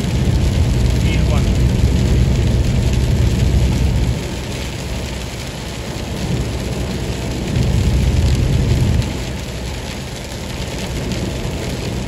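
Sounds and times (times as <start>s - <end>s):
rain hitting windshield: 0.0s - 12.0s
tyre and wind rumble: 0.0s - 12.0s.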